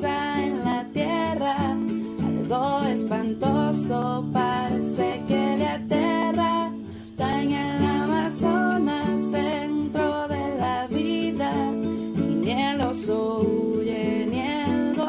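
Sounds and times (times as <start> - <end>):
acoustic guitar: 0.0 - 15.0
person singing: 0.0 - 15.0.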